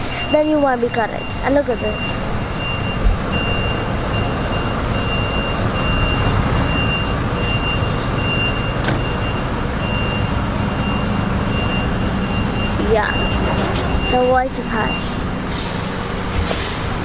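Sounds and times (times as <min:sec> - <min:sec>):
truck warning beeper: 0:00.0 - 0:16.2
diesel engine rumble: 0:00.0 - 0:17.0.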